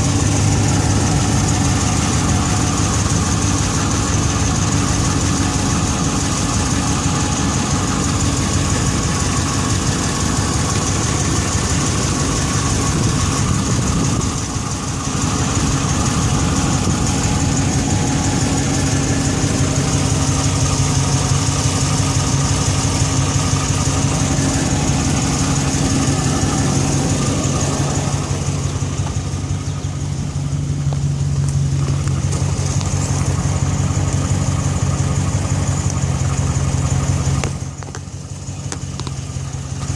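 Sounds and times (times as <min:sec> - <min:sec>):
high whine: 0:00.0 - 0:39.9
truck engine idling: 0:00.0 - 0:39.9.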